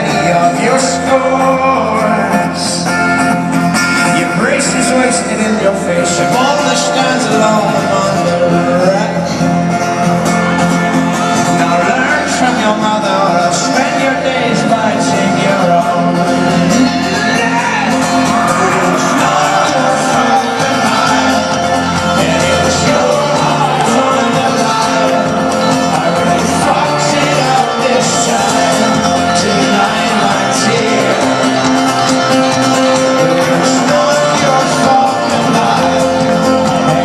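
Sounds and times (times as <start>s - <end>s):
crowd shouting and singing along: 0.0s - 37.0s
live folk-rock band playing: 0.0s - 37.0s.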